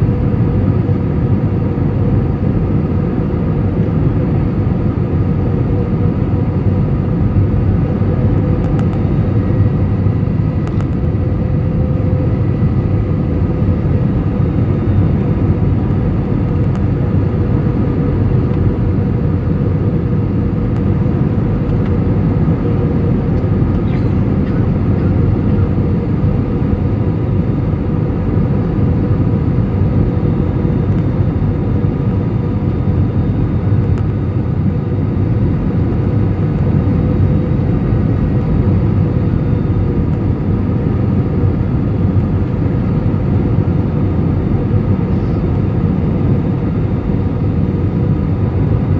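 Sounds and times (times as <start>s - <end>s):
jet engine and airflow rush: 0.0s - 48.9s.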